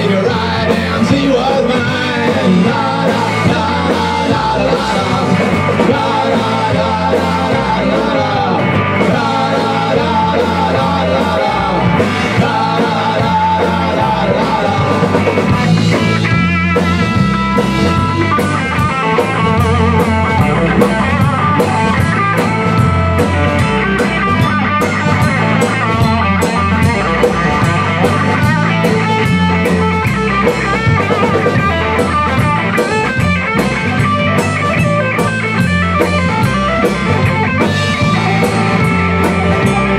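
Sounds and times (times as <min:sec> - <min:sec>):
bass guitar: 0:00.0 - 0:39.9
drum beat: 0:00.0 - 0:39.9
electric guitar: 0:00.0 - 0:39.9.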